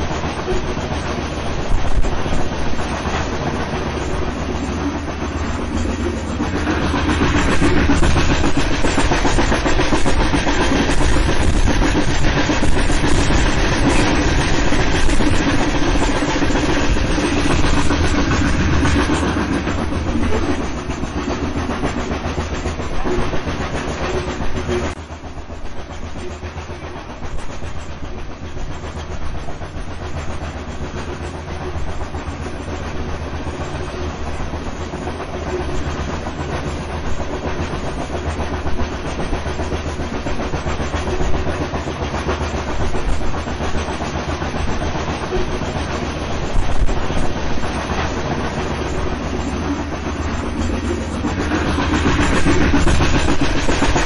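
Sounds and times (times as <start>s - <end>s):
steam train rumbling: 0.0s - 54.0s.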